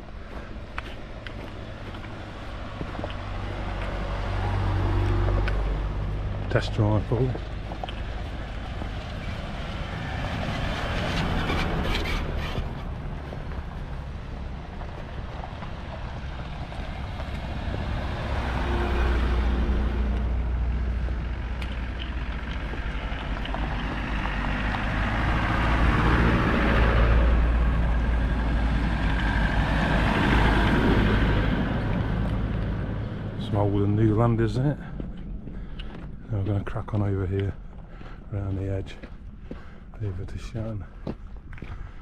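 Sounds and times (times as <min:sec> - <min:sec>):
off-road vehicles driving past: 0:00.0 - 0:42.0.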